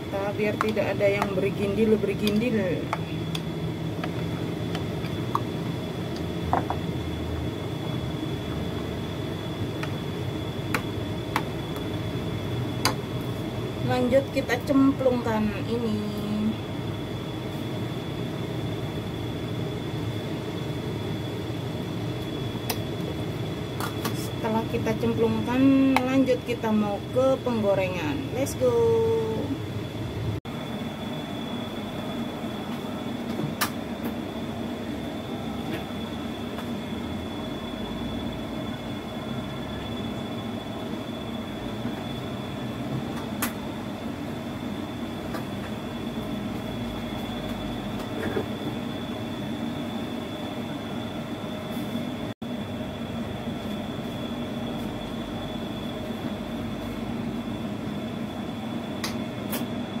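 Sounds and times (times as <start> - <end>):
electric fan hum with whine: 0.0 - 60.0.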